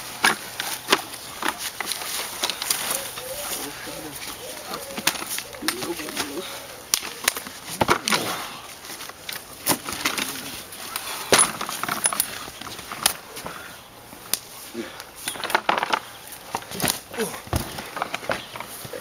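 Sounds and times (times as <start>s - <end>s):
wrestlers scuffling: 0.0s - 19.0s
voices: 1.1s - 19.0s.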